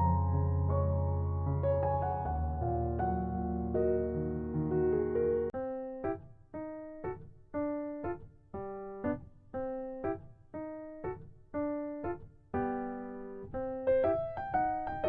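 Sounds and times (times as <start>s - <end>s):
piano bass line: 0.0s - 15.0s
piano chords: 0.0s - 15.0s.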